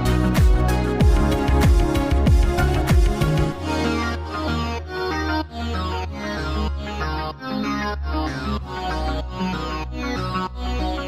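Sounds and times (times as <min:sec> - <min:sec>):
instrumental music with held chords: 0:00.0 - 0:11.0.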